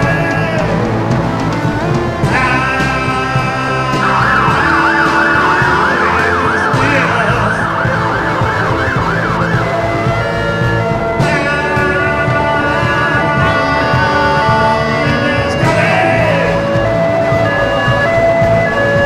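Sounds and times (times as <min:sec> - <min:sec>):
rock music: 0:00.0 - 0:19.0
siren wailing: 0:00.0 - 0:19.0.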